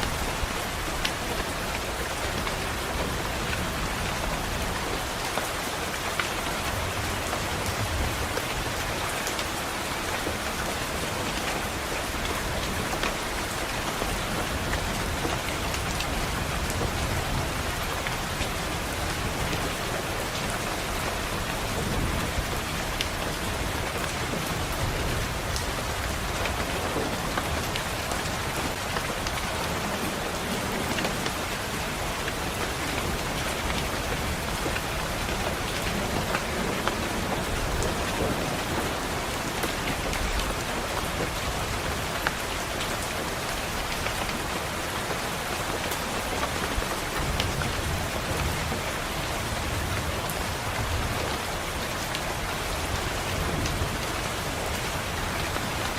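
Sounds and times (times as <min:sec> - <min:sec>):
steady rainfall hiss: 0:00.0 - 0:55.9.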